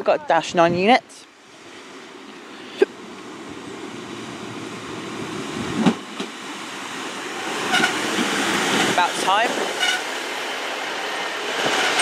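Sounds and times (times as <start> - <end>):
diesel train rumbling: 0.0 - 12.0.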